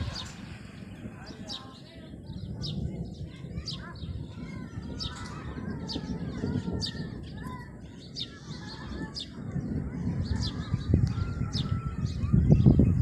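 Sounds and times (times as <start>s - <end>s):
small birds chirping: 0.0s - 13.0s
steady low rumbling: 0.0s - 13.0s.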